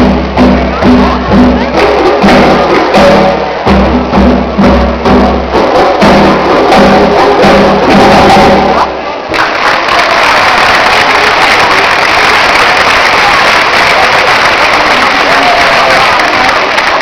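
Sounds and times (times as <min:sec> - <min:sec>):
percussion ensemble drumming: 0:00.0 - 0:17.0.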